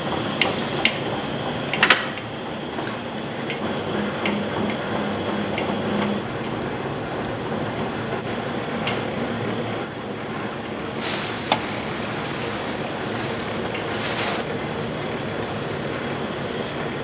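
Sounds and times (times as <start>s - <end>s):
machinery running: 0.0s - 17.0s.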